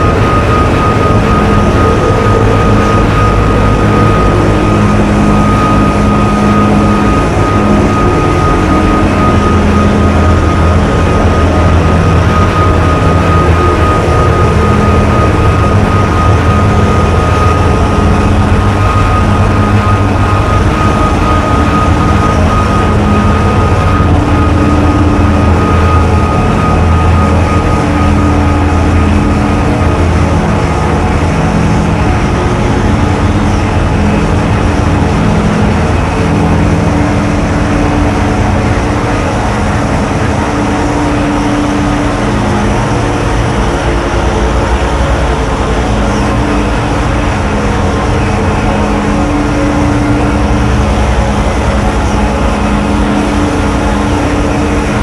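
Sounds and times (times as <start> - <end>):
deep hum: 0.0 - 55.0
steady high tone: 0.0 - 55.0.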